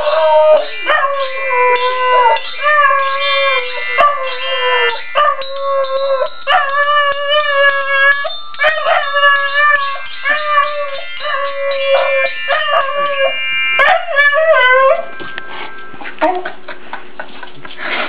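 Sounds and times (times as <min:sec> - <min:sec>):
dog howling: 0:00.0 - 0:15.2
glockenspiel ringing: 0:00.0 - 0:17.6.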